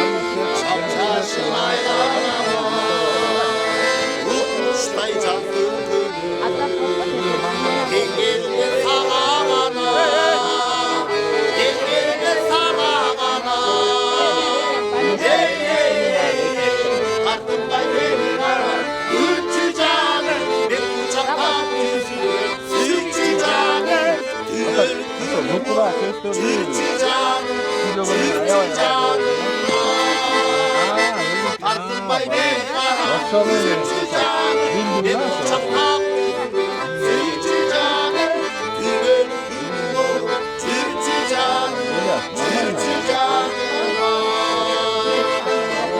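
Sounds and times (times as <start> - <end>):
accordion folk music: 0.0 - 45.9
people singing: 0.0 - 45.9.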